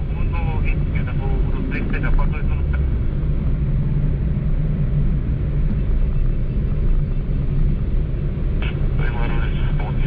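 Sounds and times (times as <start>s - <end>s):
low vehicle rumble: 0.0s - 10.0s.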